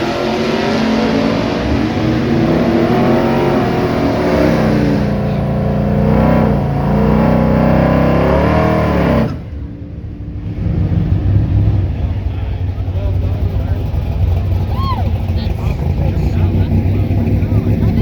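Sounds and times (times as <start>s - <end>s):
car engine revving hard: 0.0s - 18.0s
low engine rumble: 0.0s - 18.0s.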